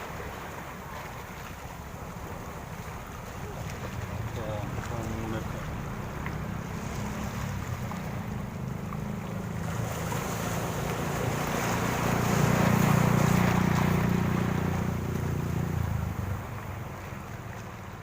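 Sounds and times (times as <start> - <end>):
sea waves breaking on beach: 0.0 - 18.0.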